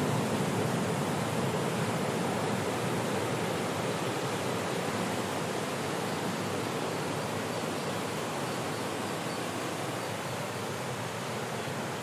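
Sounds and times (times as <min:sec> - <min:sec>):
heavy surf on rocky shore: 0:00.0 - 0:12.0.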